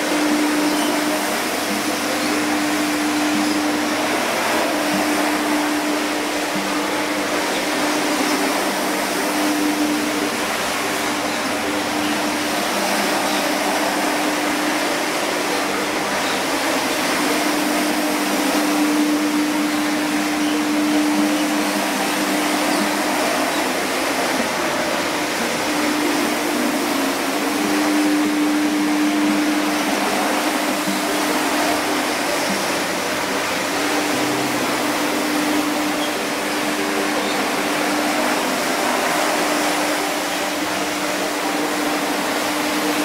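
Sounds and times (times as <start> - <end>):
motor hum: 0.0 - 43.0
rotary scrubber whirring: 0.0 - 43.0.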